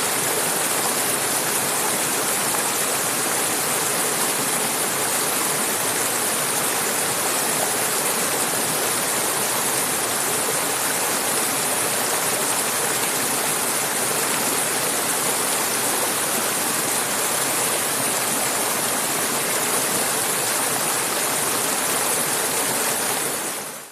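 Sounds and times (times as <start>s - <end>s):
river rushing over rocks: 0.0s - 23.9s.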